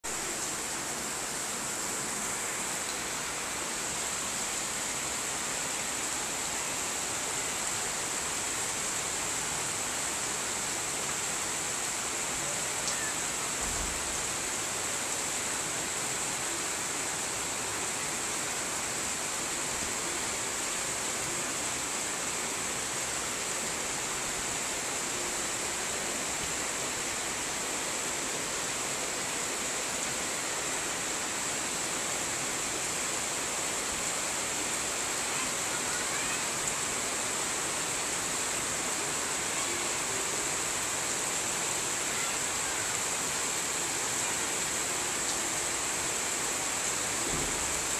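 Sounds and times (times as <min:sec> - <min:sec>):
heavy rain on tin roof: 0:00.0 - 0:47.9.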